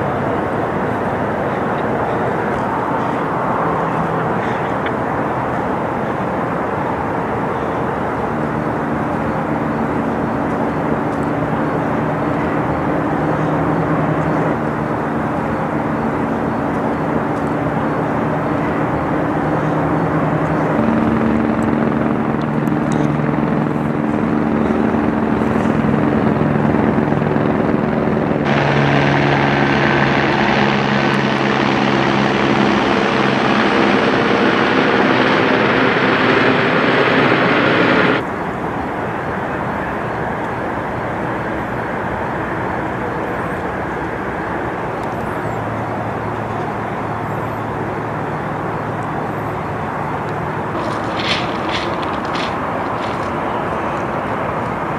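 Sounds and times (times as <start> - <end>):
engine droning: 0.0 - 54.9.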